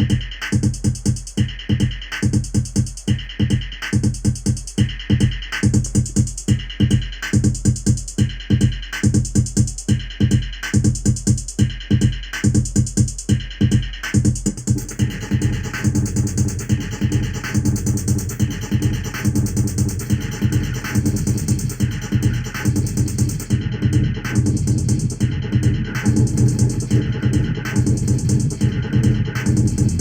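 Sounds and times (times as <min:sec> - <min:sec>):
drum machine kick pattern: 0:00.0 - 0:30.0.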